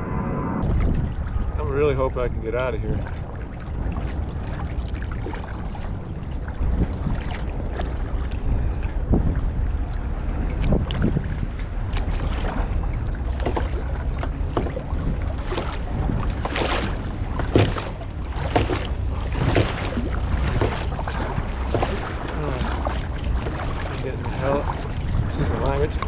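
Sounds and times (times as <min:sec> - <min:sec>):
low wind rumble on microphone: 0:00.0 - 0:26.0
kayak paddle splashing water: 0:00.6 - 0:09.4, 0:10.4 - 0:26.0.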